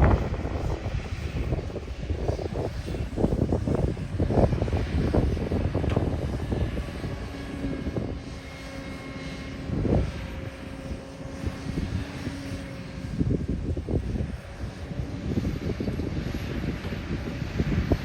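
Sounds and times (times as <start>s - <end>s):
steady whine: 0.0s - 18.0s.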